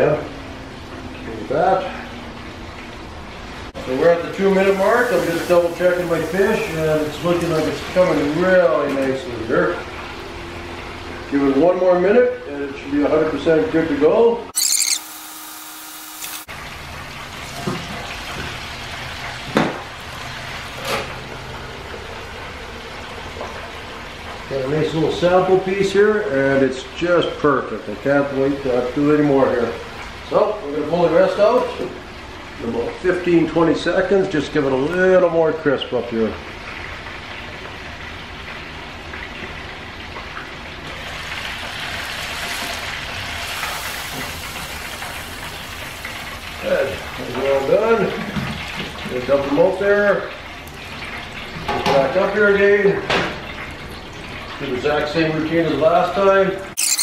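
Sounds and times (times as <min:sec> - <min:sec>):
oil sizzling in deep fryer: 0:00.0 - 0:11.3, 0:14.6 - 0:57.0.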